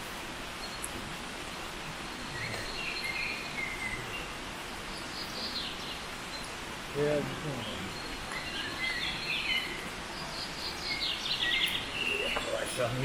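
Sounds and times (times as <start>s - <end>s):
outdoor background noise: 0.0s - 13.0s
faint bird chirps: 0.5s - 13.0s.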